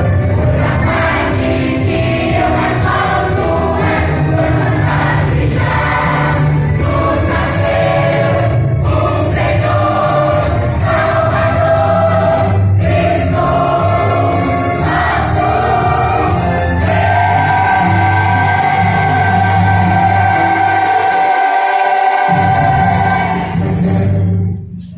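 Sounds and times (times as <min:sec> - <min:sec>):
choir singing: 0:00.0 - 0:23.8
instrumental accompaniment: 0:00.0 - 0:24.9.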